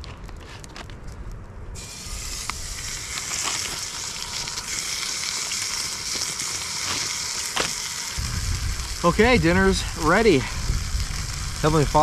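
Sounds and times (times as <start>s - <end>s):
hamburger sizzling in a pan: 1.8s - 12.0s.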